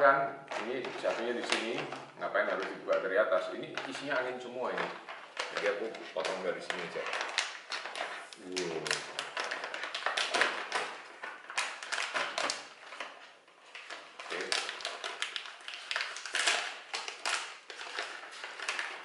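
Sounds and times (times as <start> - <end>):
crisps bag crinkling as torn open: 0.5 - 19.0.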